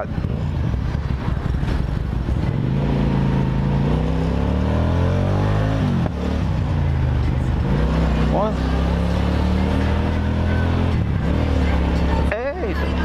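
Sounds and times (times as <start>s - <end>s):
motorcycle engine accelerating: 0.2s - 13.0s.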